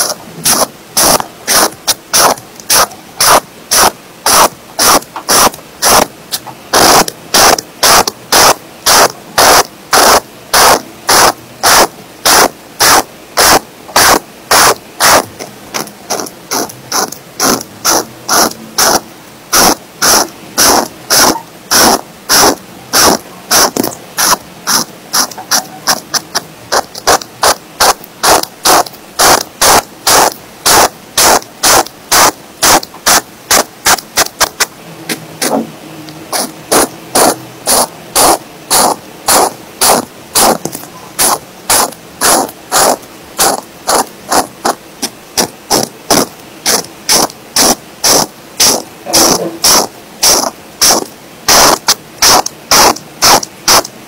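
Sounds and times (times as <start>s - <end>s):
marker scratching on paper: 0.0s - 53.9s.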